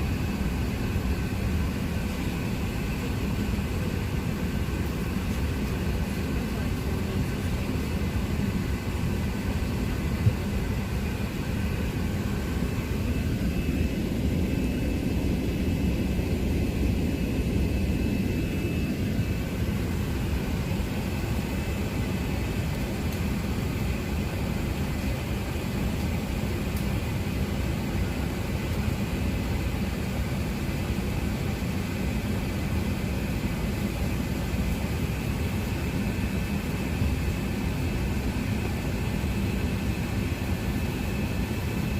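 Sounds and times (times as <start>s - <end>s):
jet airliner cabin rumble: 0.0s - 41.9s.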